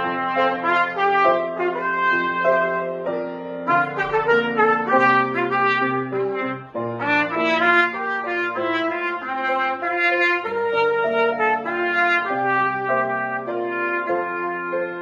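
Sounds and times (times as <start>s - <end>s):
grand piano accompaniment: 0.0s - 15.0s
trumpet melody: 0.0s - 15.0s.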